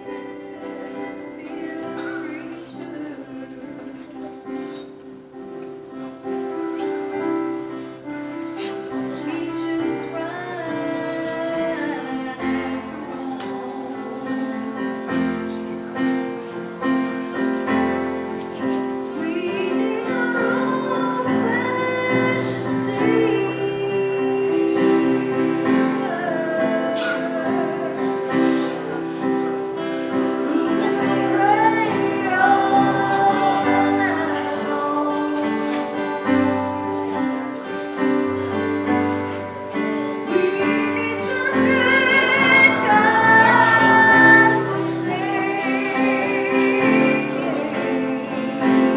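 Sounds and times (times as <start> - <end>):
woman singing worship song: 0.0 - 5.0, 7.5 - 16.2, 17.6 - 48.9.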